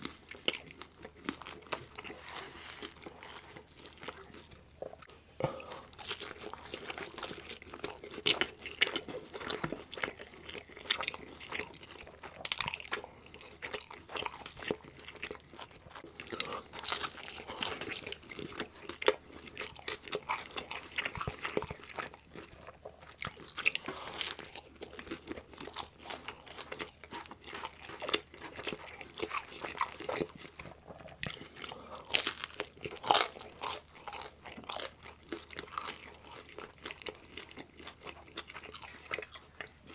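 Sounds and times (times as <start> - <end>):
chewing pizza: 0.0 - 39.9.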